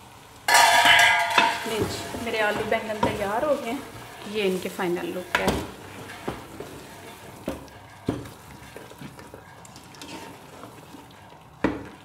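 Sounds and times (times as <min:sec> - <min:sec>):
faint sizzle: 0:00.0 - 0:12.0
spatula stirring thick curry: 0:01.6 - 0:12.0.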